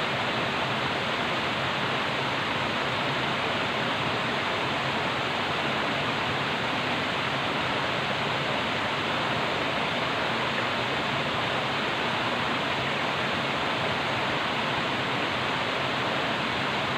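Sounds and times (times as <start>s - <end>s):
flowing water: 0.0s - 16.9s.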